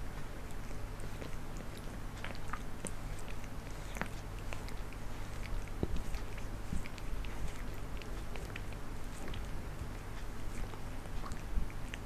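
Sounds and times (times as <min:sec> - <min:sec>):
cat licking its fur: 0:00.2 - 0:12.0.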